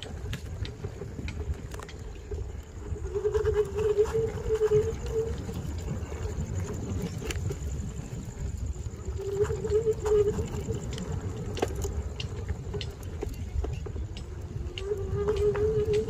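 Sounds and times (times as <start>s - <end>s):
wavering whine: 0.0s - 16.0s
wind on microphone: 0.0s - 16.0s.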